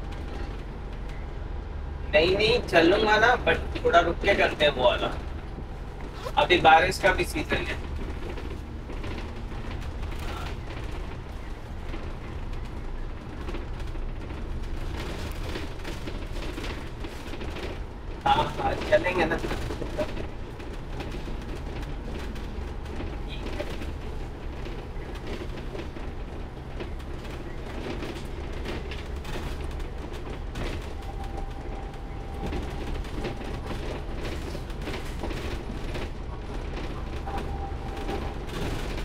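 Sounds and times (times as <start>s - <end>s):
bus engine and road rumble: 0.0s - 39.0s
rattles and clicks from bus body: 0.0s - 39.0s.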